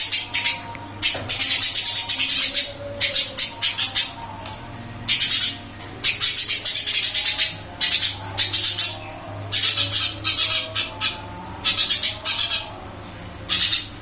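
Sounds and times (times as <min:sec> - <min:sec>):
sparrow chirping: 0:00.0 - 0:04.5, 0:05.1 - 0:12.8, 0:13.5 - 0:14.0.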